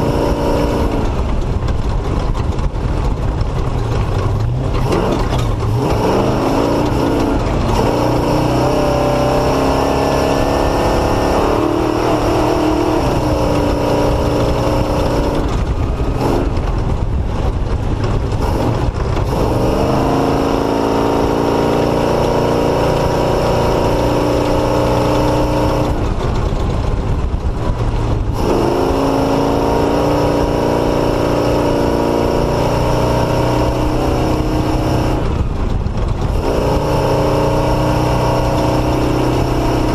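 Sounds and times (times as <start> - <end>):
motorcycle engine revving: 0.0 - 39.9
rushing wind noise: 0.0 - 39.9
steady low rumble: 0.0 - 39.9.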